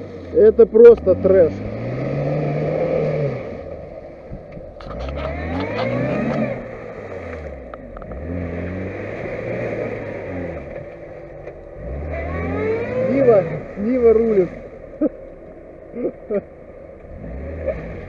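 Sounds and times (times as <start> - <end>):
car engine revving hard: 0.0 - 15.3, 15.9 - 18.0.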